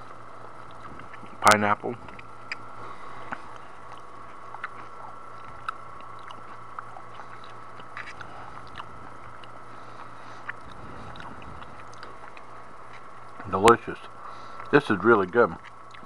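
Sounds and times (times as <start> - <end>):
person chewing food: 0.0 - 14.8, 15.5 - 16.0
steady background hum: 0.0 - 16.0.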